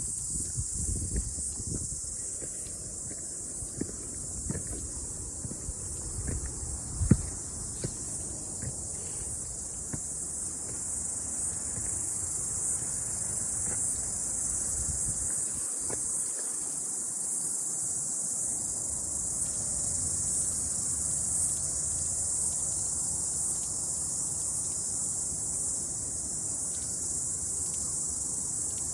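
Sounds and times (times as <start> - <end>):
cicadas singing: 0.0 - 28.9.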